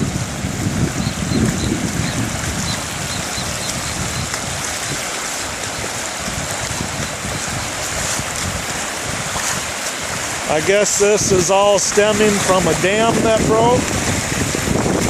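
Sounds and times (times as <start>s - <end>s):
floodwater flowing: 0.0s - 15.0s.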